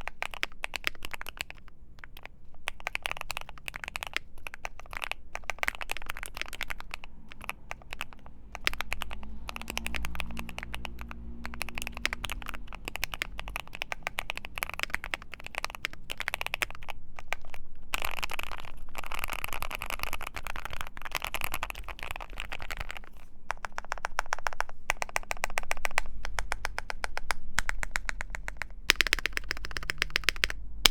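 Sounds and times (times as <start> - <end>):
fast mechanical keyboard typing: 0.0 - 30.9.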